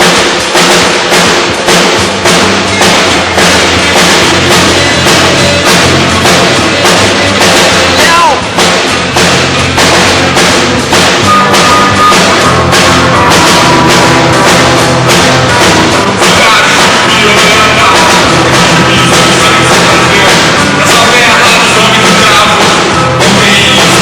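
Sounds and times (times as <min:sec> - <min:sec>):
drum kit beat: 0:00.0 - 0:24.0
rock band playing live: 0:00.0 - 0:24.0.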